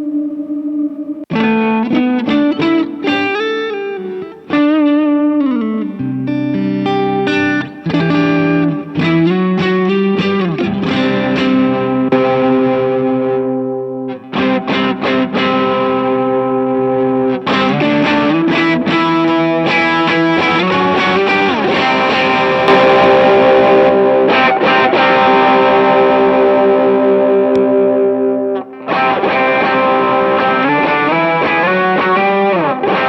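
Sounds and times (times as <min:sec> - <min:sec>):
distorted electric guitar chords: 0:00.0 - 0:33.0.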